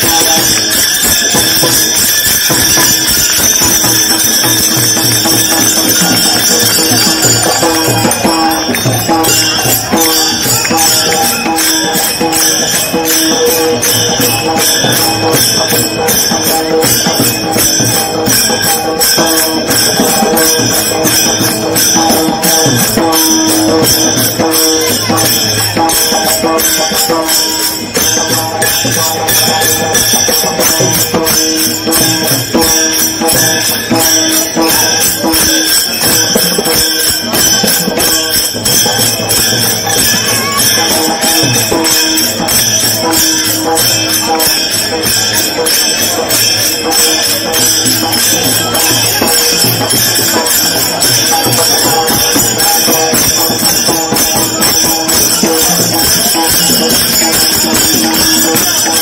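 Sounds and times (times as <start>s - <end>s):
hand cymbals clashing: 0.0s - 59.0s.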